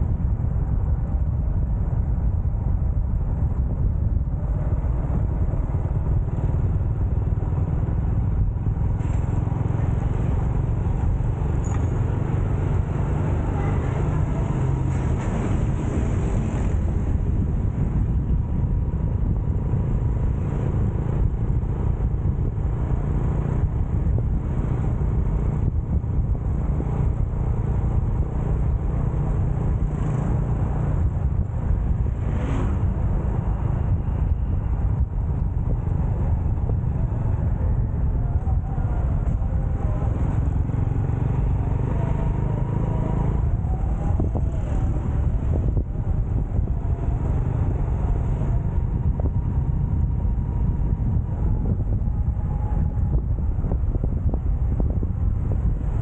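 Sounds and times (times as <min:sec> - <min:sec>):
motorcycle engine rumble: 0:00.0 - 0:56.0
road noise: 0:00.0 - 0:56.0
vehicle passing: 0:08.9 - 0:18.3, 0:19.8 - 0:56.0.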